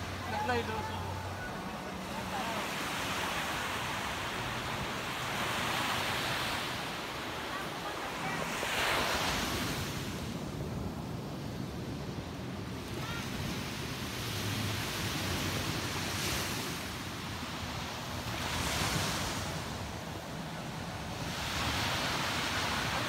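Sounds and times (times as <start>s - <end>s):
small waves breaking on beach: 0.0s - 23.0s.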